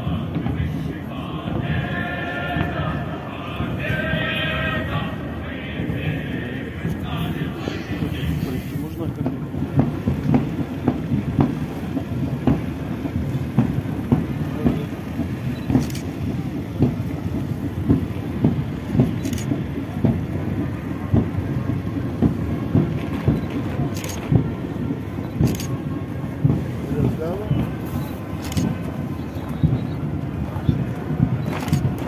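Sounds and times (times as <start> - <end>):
marching boots on pavement: 0.0 - 32.0.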